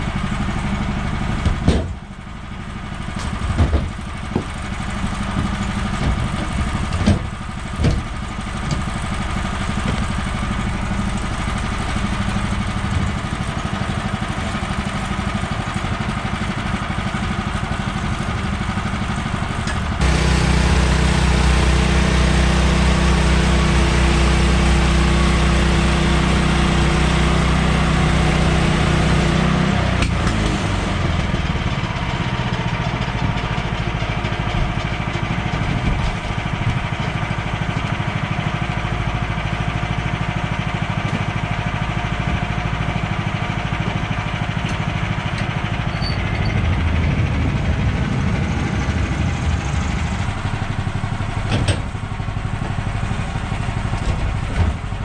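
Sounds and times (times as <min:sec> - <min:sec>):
sawmill gas engine running: 0:00.0 - 0:55.0.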